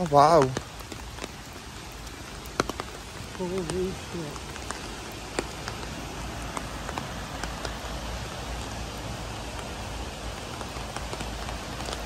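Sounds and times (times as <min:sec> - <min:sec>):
dripping ticks: 0:00.0 - 0:12.0.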